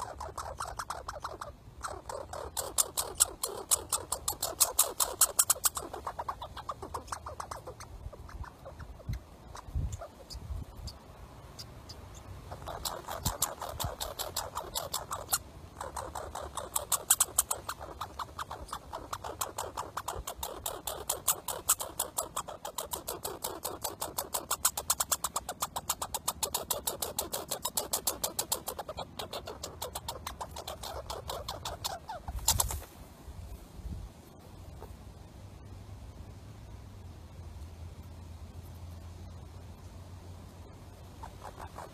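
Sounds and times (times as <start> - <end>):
squirrel chattering alarm calls: 0.0 - 32.9, 38.0 - 41.9.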